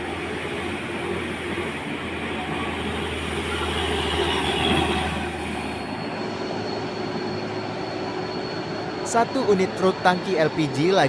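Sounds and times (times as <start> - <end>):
trucks and cars passing: 0.0 - 11.0.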